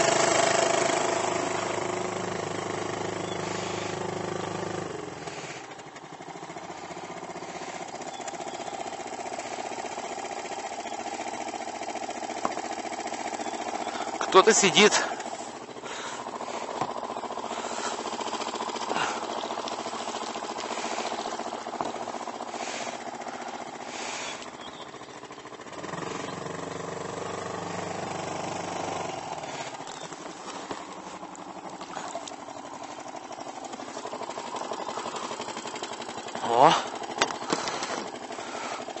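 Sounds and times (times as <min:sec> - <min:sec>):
small boat motor running: 0:00.0 - 0:39.0.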